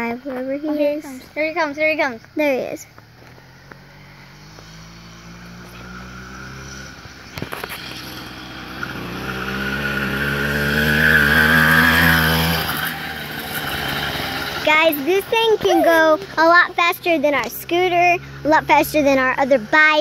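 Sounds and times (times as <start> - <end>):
small petrol engine passing by: 0.0 - 20.0.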